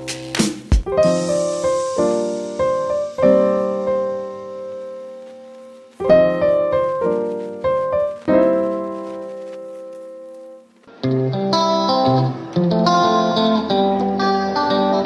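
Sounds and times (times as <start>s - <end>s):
piano chords: 0.7s - 15.0s.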